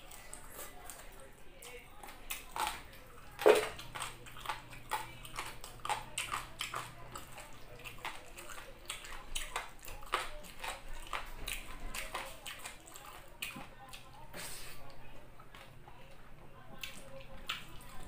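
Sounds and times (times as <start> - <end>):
wet chewing and lip smacks: 0.0 - 14.2, 16.7 - 18.0.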